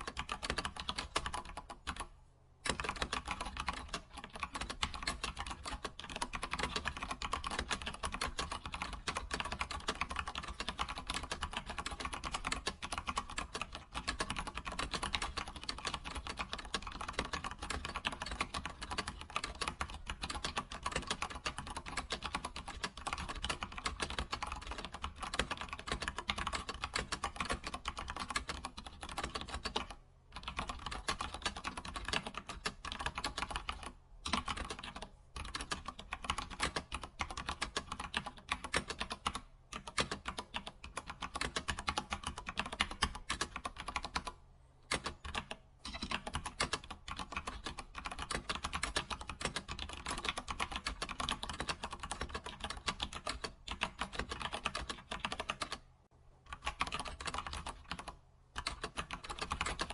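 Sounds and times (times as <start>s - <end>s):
keyboard typing: 0.0s - 55.9s, 56.5s - 59.9s.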